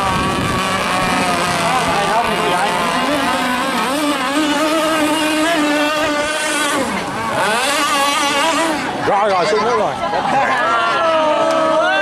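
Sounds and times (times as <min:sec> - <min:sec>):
speedboat engine revving: 0:00.0 - 0:12.0.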